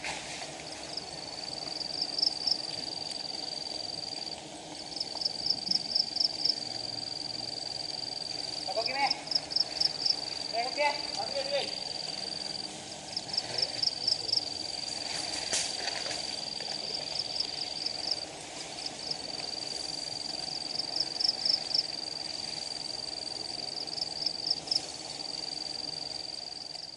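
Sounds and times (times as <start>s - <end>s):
honeybee swarm humming: 0.0s - 26.9s
insect quick chirps: 0.7s - 26.9s
insect high-pitched shrill: 0.9s - 4.3s, 4.9s - 26.9s.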